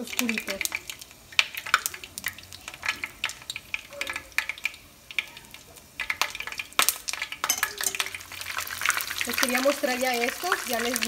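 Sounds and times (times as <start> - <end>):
food crackling in hot oil: 0.0 - 11.0.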